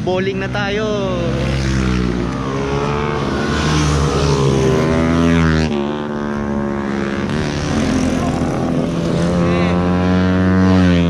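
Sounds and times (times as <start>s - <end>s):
motorcycles passing by: 0.0s - 11.0s.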